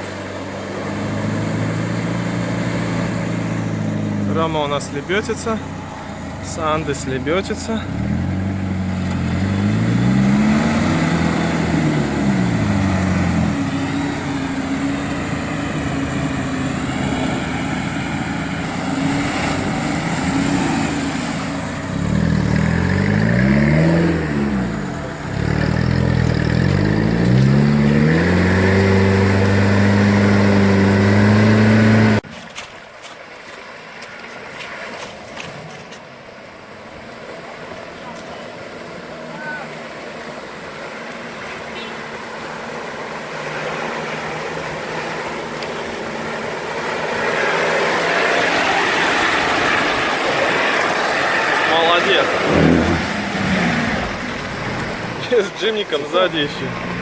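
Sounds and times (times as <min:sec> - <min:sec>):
off-road vehicle engine revving: 0:00.0 - 0:32.3, 0:37.4 - 0:57.0.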